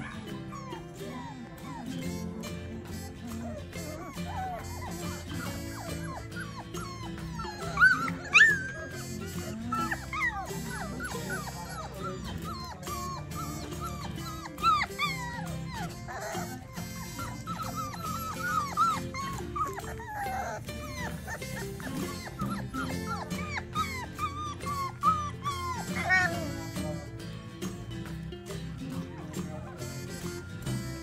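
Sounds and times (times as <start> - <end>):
background music: 0.0 - 31.0
puppies whimpering and yipping: 0.0 - 31.0.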